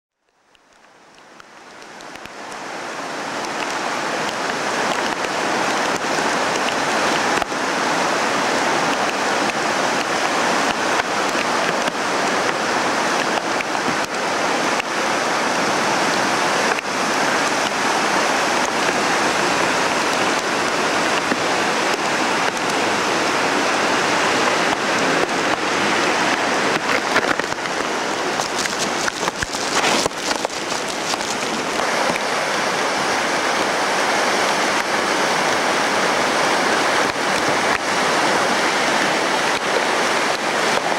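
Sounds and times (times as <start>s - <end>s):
floodwater rushing and churning: 0.3s - 40.9s.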